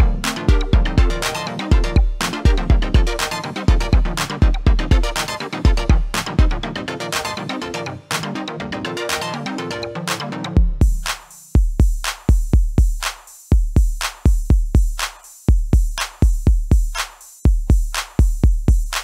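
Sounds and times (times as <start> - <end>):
drum machine beat: 0.0 - 8.4, 10.1 - 19.0.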